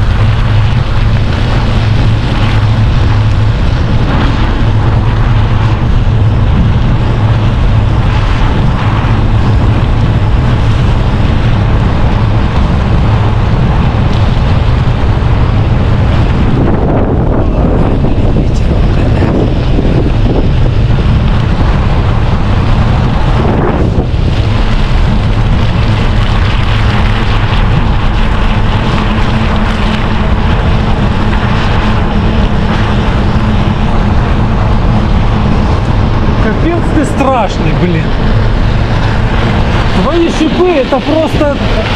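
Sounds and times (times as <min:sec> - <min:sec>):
bicycle tyres droning on road: 0:00.0 - 0:41.9
wind buffeting microphone: 0:00.0 - 0:41.9.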